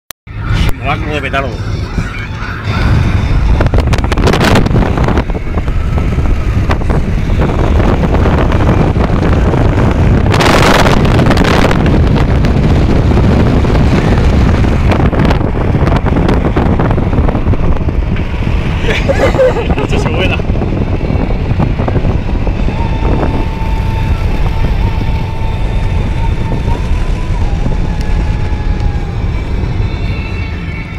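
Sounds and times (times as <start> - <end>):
car road and wind noise: 0.3 - 30.9
wind hitting microphone: 0.4 - 30.9.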